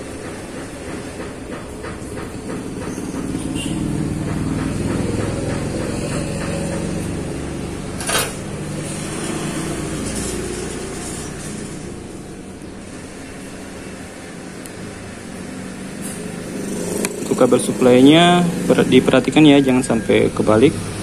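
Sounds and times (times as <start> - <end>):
passing vehicle engine rumble: 1.1 - 21.0.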